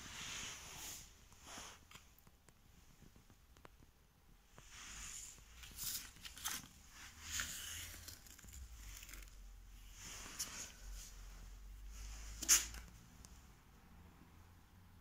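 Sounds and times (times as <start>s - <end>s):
hands rustling and scraping: 0.0s - 3.8s, 4.5s - 13.4s.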